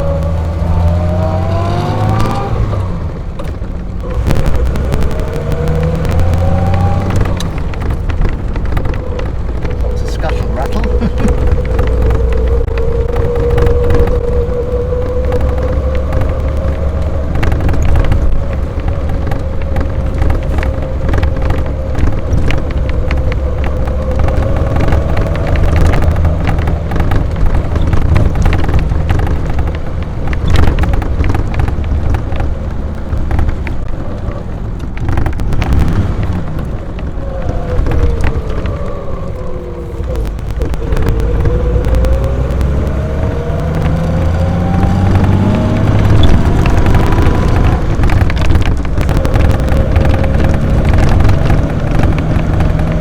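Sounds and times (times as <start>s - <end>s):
car engine pulling: 0.0s - 53.0s.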